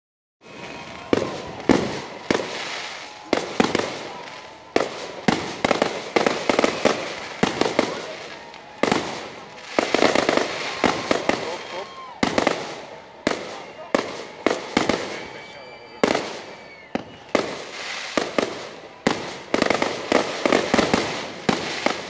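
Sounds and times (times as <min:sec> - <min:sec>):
fireworks bangs: 0:00.4 - 0:22.0
fireworks crackling: 0:00.4 - 0:22.0.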